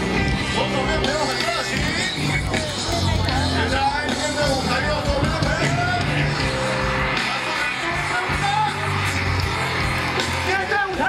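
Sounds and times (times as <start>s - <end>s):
live rock band: 0.0s - 11.0s
steady bass line: 0.0s - 11.0s.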